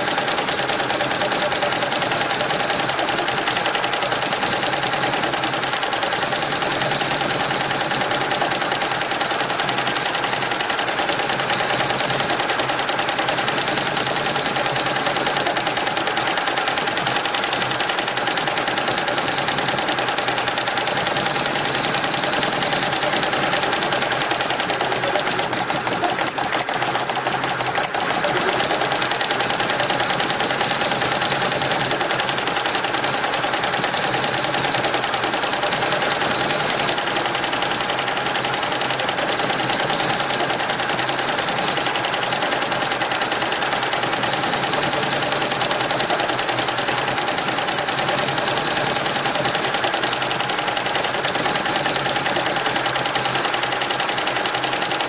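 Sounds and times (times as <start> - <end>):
machine hum: 0.0 - 53.3
embroidery machine needle strokes: 0.0 - 55.0.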